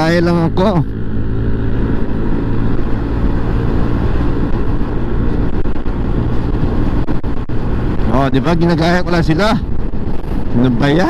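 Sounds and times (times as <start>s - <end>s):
scooter engine drone: 0.0s - 11.0s
wind and road noise: 0.0s - 11.0s.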